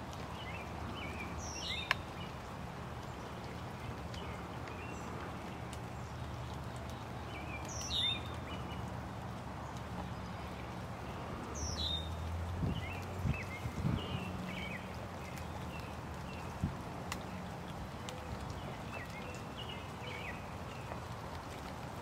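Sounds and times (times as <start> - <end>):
low outdoor rumble: 0.0 - 22.0
small birds chirping: 0.2 - 21.8.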